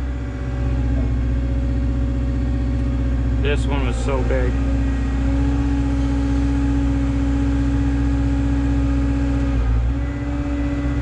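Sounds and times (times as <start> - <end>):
excavator diesel engine drone: 0.0 - 11.0.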